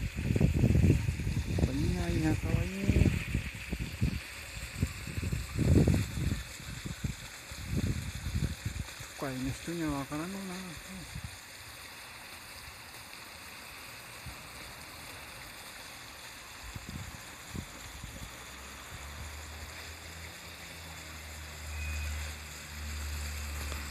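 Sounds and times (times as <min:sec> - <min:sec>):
rushing outdoor hiss: 0:00.0 - 0:23.9.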